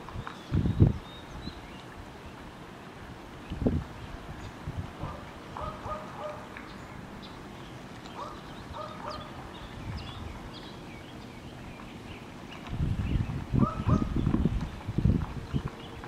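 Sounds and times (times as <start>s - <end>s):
outdoor background hiss: 0.0s - 16.0s
small birds chirping: 0.1s - 2.4s, 4.4s - 16.0s.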